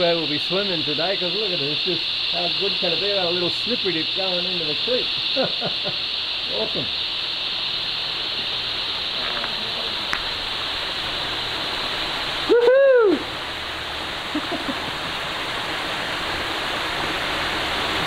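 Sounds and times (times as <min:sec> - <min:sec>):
creek water running over rocks: 0:00.0 - 0:18.0.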